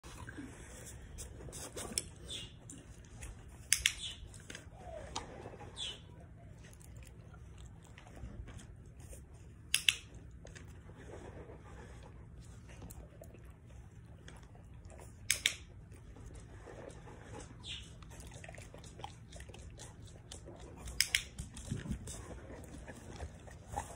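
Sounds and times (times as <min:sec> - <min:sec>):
low steady hum: 0:00.0 - 0:23.9.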